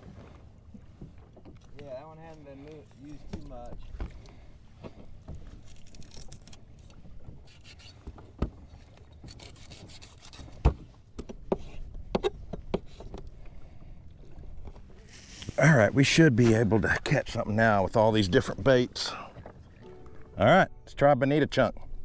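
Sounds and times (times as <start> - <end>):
low rumble of wind and water: 0.0 - 22.0.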